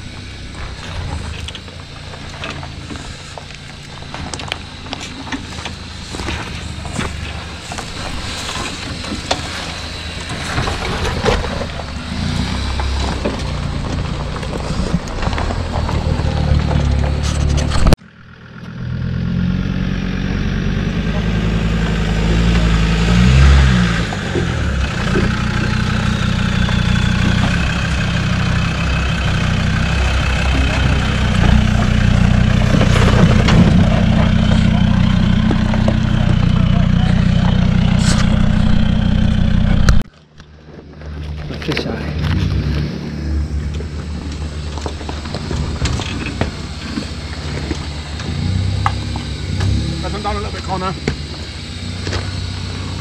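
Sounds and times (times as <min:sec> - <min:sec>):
off-road vehicle engine running: 0:00.0 - 0:53.0
stones clicking under tyres: 0:00.2 - 0:18.0, 0:21.8 - 0:53.0.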